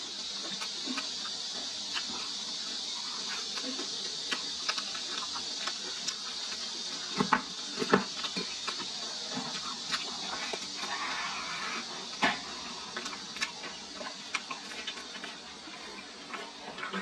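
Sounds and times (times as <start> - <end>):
chewing clicks: 0.2 - 11.1, 12.9 - 17.0.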